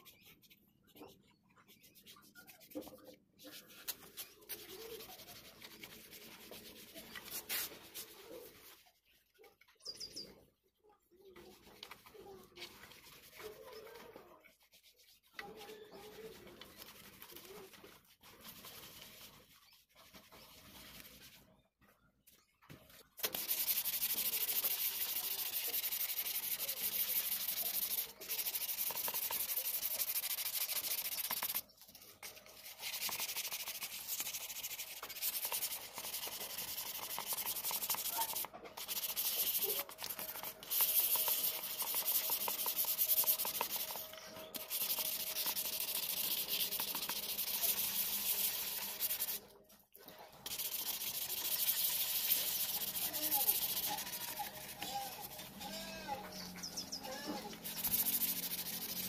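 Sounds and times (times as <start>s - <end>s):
sandpaper scrubbing wet surface: 0.0s - 9.2s, 11.4s - 21.5s, 23.2s - 49.5s, 50.3s - 59.0s.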